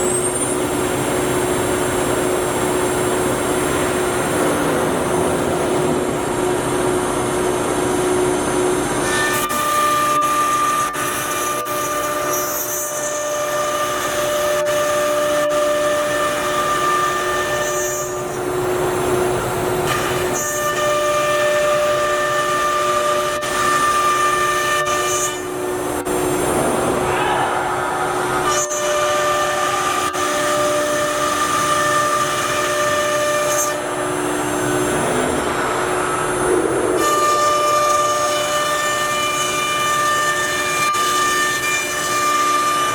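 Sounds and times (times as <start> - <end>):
router spindle whining and cutting: 0.6 - 42.9.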